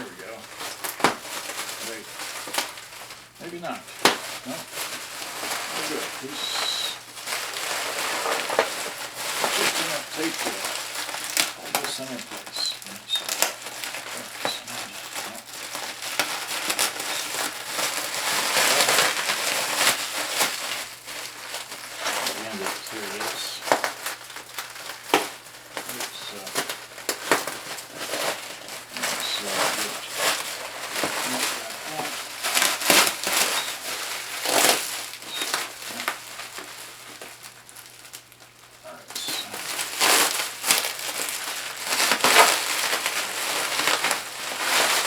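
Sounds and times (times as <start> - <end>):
bubble wrap and tape crinkling: 0.0 - 45.0.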